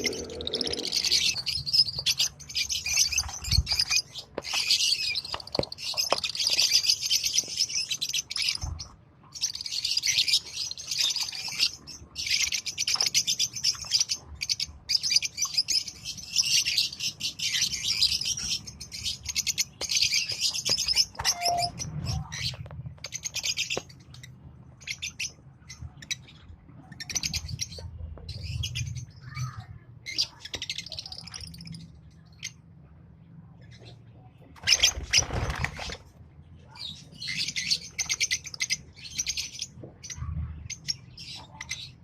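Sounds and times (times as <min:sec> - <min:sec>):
lovebirds chattering: 0:00.0 - 0:32.8, 0:33.5 - 0:42.0.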